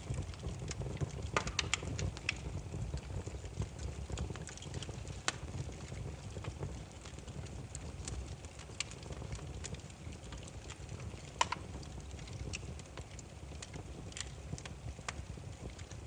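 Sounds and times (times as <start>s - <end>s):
firewood fire crackling: 0.0s - 16.0s.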